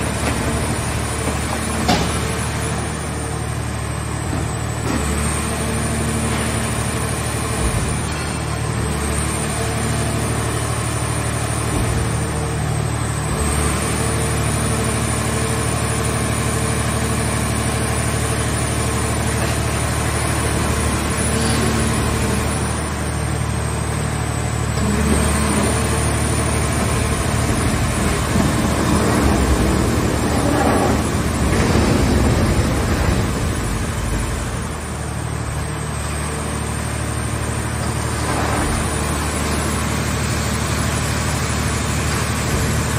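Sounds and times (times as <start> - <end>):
hydraulic drone and pump whine: 0.0 - 42.9.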